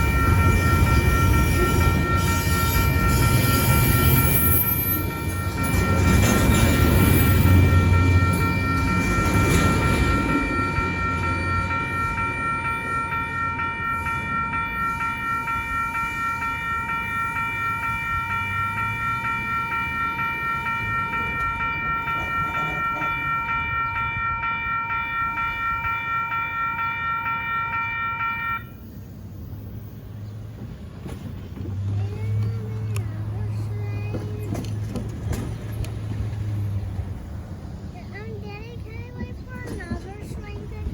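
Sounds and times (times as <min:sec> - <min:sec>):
railroad crossing bell ringing: 0:00.0 - 0:31.0, 0:31.8 - 0:40.9
passing train rumble: 0:00.0 - 0:40.9.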